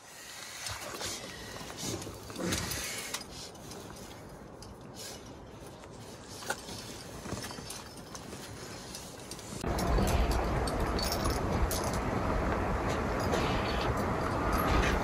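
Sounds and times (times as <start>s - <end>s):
climbing rope rustling: 0.2s - 15.0s.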